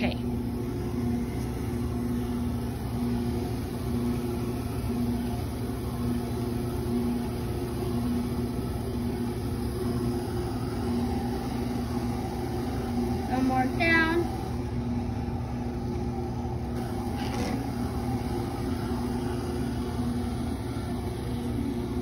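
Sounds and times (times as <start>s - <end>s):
motor humming: 0.0s - 22.0s.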